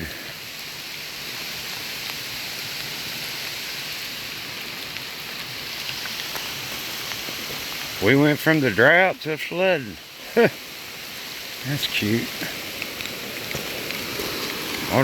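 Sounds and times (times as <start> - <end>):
steady rain hissing: 0.0 - 15.0.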